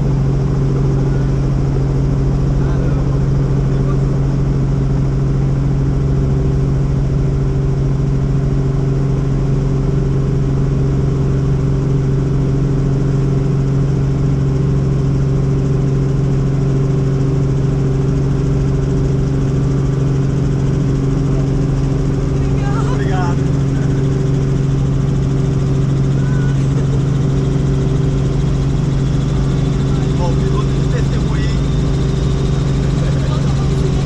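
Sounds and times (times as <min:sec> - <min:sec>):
helicopter engine and rotors drone: 0:00.0 - 0:34.0.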